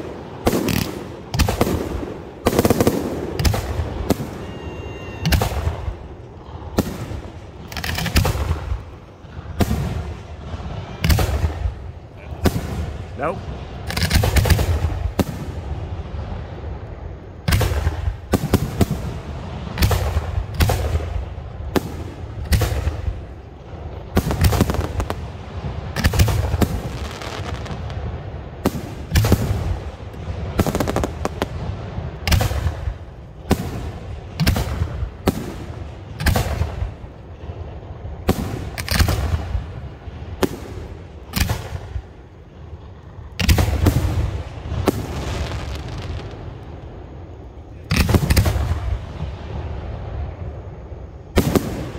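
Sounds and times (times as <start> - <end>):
fireworks bangs: 0.0 - 51.9.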